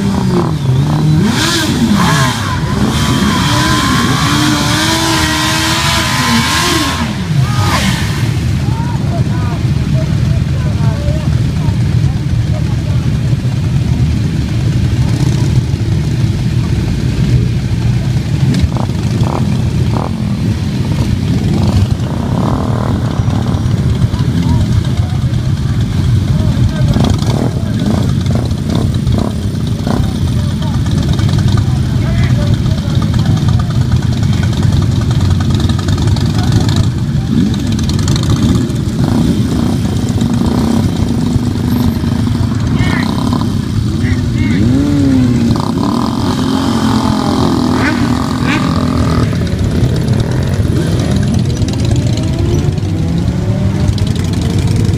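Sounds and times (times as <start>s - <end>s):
motorcycle engines rumbling: 0.0s - 54.9s.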